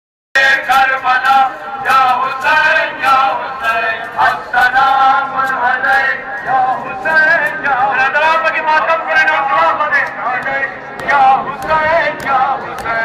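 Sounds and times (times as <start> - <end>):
man chanting melodically: 0.4 - 13.0.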